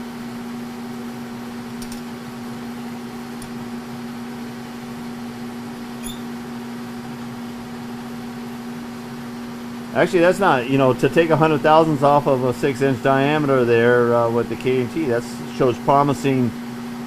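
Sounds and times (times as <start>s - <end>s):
milling machine humming: 0.0s - 17.0s.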